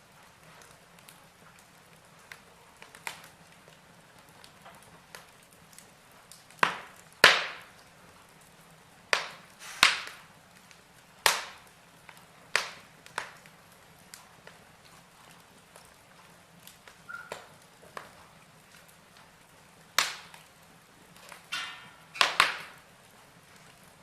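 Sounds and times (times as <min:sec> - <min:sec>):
fire crackling ticks: 0:00.0 - 0:24.0
fire hissing: 0:00.0 - 0:24.0.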